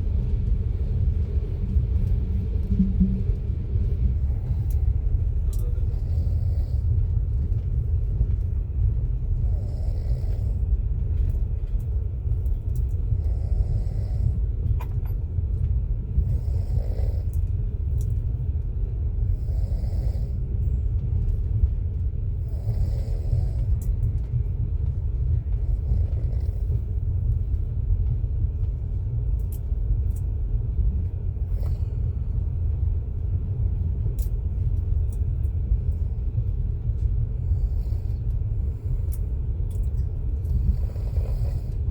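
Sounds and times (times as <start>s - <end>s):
train carriage rumble: 0.0s - 41.9s.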